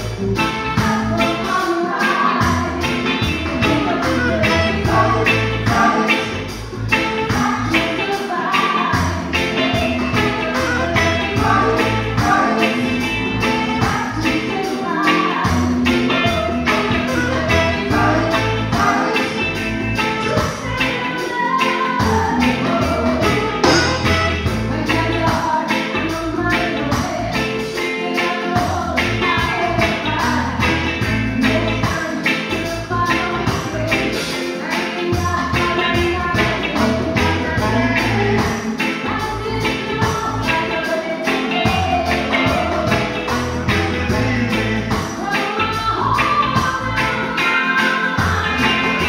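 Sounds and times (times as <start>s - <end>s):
reggae band playing: 0.0s - 49.0s
woman singing: 0.4s - 49.0s.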